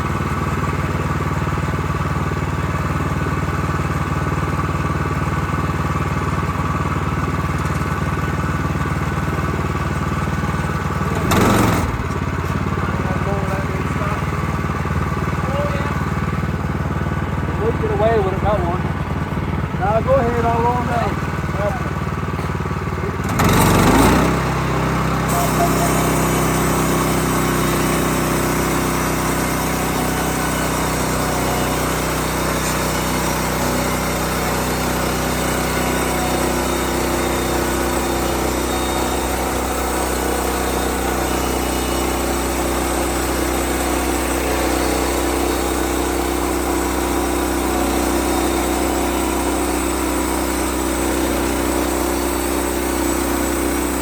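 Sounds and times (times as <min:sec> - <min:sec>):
petrol engine running: 0:00.0 - 0:54.0.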